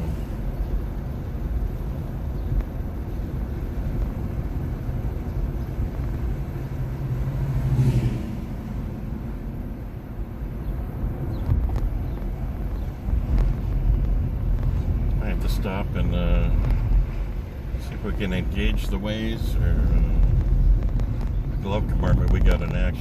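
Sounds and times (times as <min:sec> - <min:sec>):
road and tyre rumble in car: 0:00.0 - 0:23.0.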